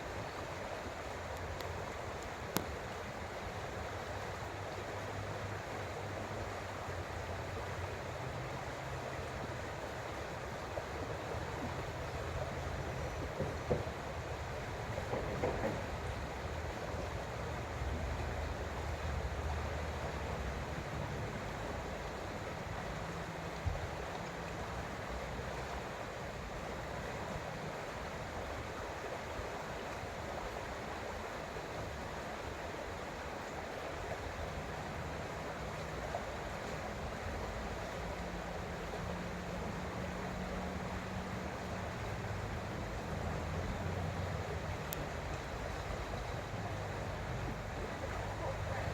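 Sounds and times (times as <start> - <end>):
creek water flowing: 0.0 - 48.9.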